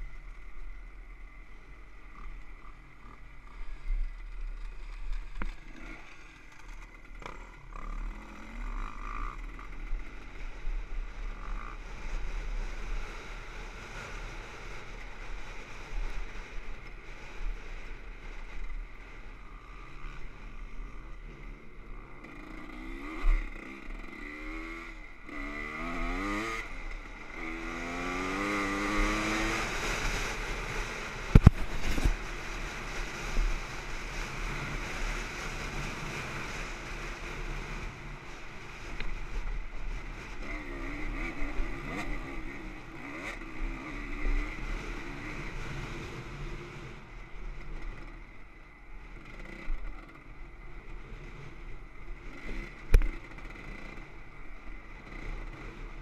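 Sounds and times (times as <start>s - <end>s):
dirt bike engine accelerating: 0.0s - 16.5s, 17.1s - 56.0s.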